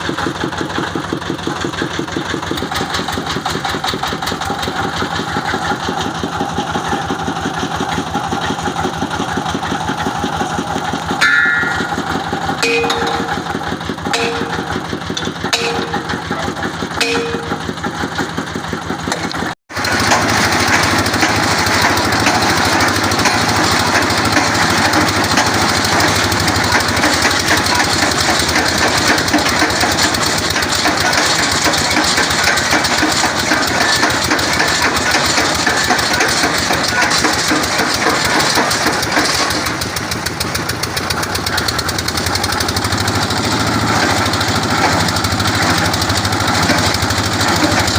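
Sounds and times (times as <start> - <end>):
drilling rig engine running: 0.0 - 47.9.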